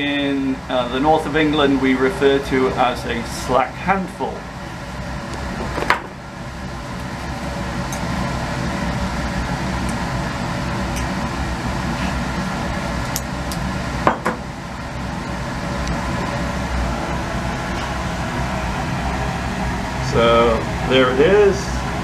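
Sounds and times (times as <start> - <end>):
ventilation hum: 0.0 - 22.0.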